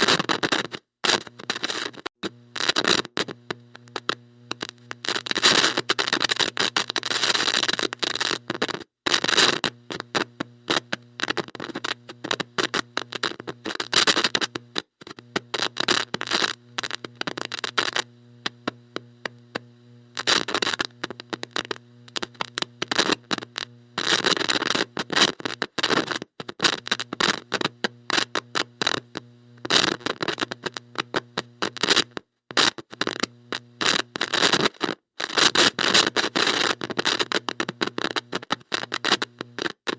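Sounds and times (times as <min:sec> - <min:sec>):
electrical buzzing hum: 0:00.0 - 0:39.9
static crackles and hiss: 0:00.0 - 0:39.9.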